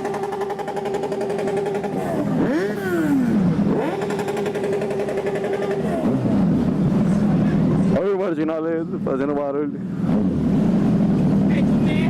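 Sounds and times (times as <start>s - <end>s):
engine revving: 0.0s - 7.9s, 10.0s - 12.0s
motorcycle engines cruising: 0.0s - 12.0s.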